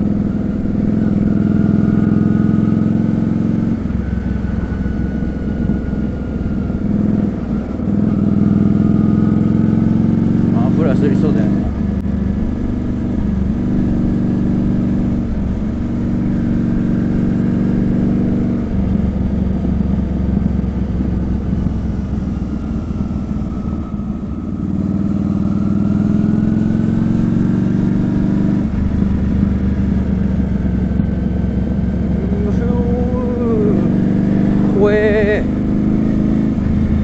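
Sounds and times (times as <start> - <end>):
motorcycle engine being ridden: 0.0 - 37.0.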